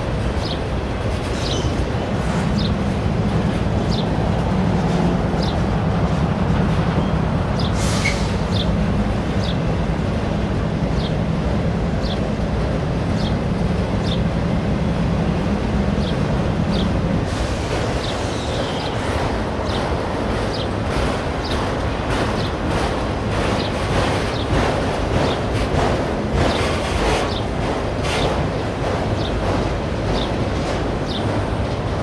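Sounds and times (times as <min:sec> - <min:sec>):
steel wheels rumbling on rail: 0:00.0 - 0:32.0.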